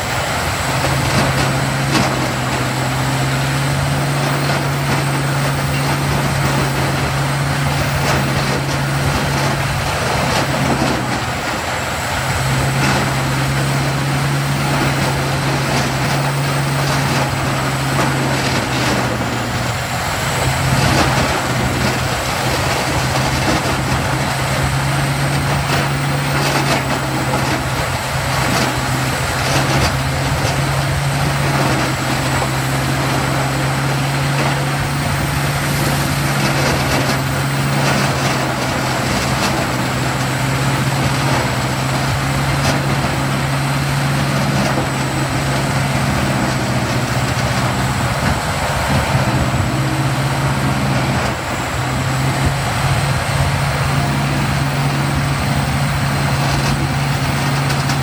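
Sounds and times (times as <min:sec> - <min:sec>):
wood grinder humming: 0:00.0 - 0:58.0.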